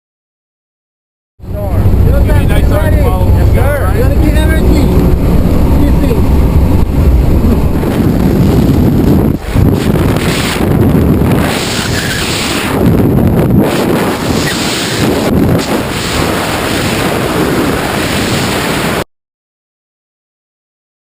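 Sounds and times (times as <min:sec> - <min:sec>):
wind buffeting microphone: 0:01.4 - 0:19.0.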